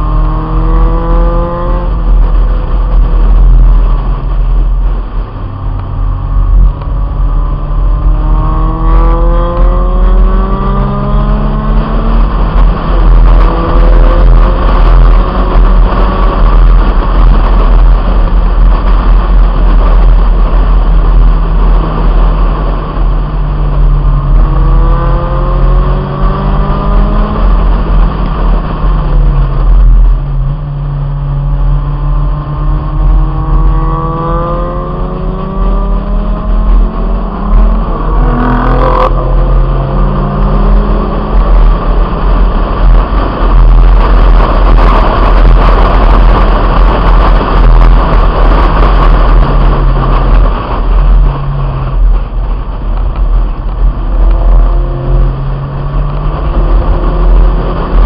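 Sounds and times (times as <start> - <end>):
car engine revving: 0.0 - 58.0
wind rumble on microphone: 0.0 - 58.0.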